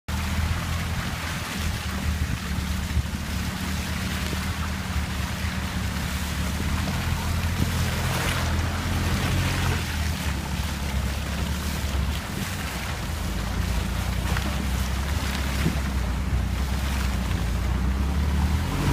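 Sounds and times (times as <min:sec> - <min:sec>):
tyres splashing through mud: 0:00.1 - 0:18.9
vehicle engine droning: 0:00.1 - 0:18.9
wind buffeting microphone: 0:00.1 - 0:18.9.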